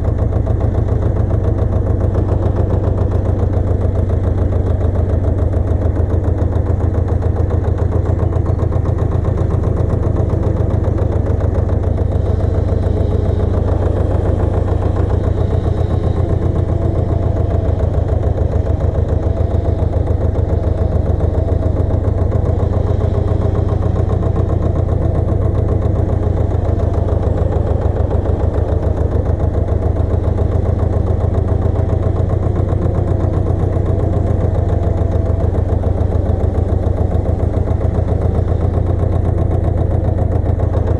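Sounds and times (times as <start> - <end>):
walking tractor engine running: 0.0 - 40.9.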